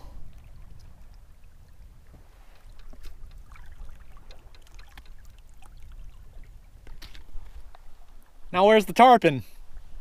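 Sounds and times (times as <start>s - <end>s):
water lapping against hull: 0.0s - 8.6s
light ticks and splashes: 0.2s - 8.4s.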